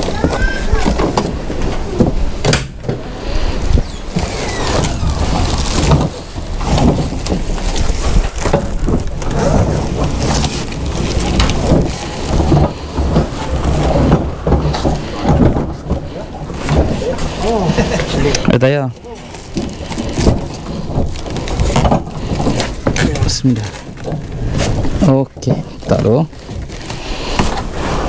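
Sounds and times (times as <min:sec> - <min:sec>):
knocks and bumps: 0:00.0 - 0:27.8
tarp and box rustling and crinkling: 0:00.0 - 0:28.0.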